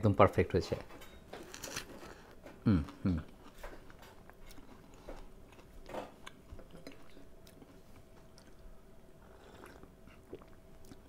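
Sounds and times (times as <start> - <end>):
faint chewing: 1.4 - 11.0.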